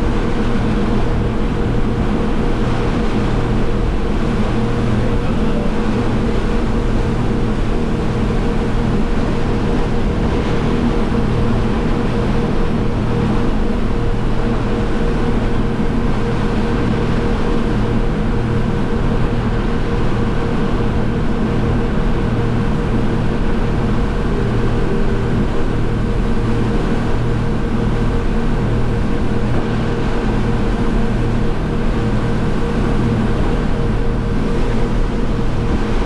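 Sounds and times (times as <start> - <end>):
motorboat engine drone: 0.0 - 36.0
water rushing along hull: 0.0 - 36.0.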